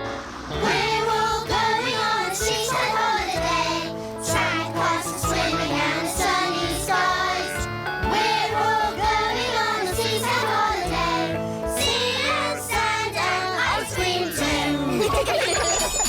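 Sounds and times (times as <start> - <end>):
bouncy backing track: 0.0 - 16.0
children singing together: 0.5 - 15.5.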